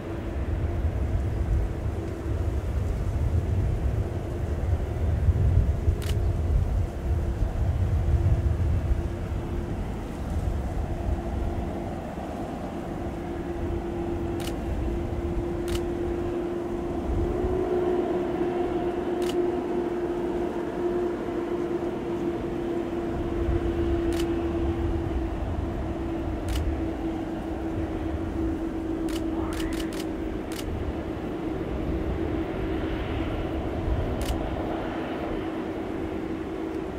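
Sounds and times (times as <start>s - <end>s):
jet engines whining: 7.1s - 36.9s.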